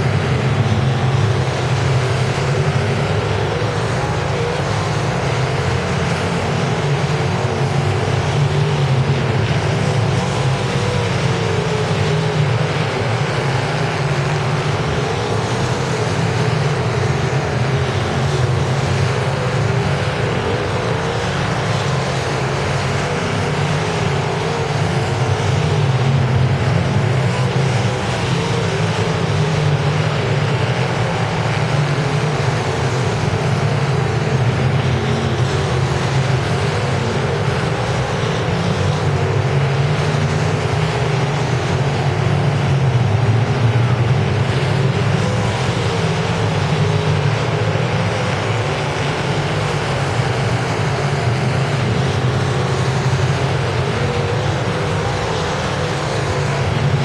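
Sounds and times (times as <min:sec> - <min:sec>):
race car engines: 0:00.0 - 0:57.0.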